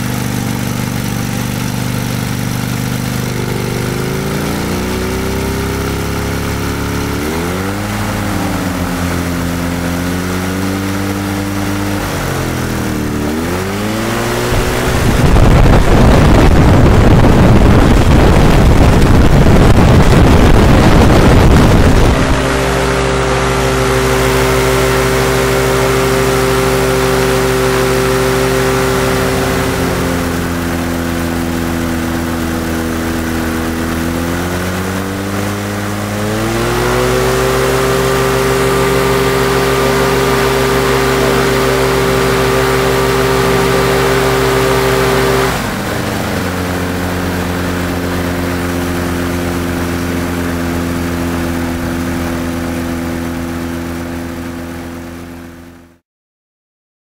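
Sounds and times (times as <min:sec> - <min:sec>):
two-stroke engine running: 0:00.0 - 0:56.0.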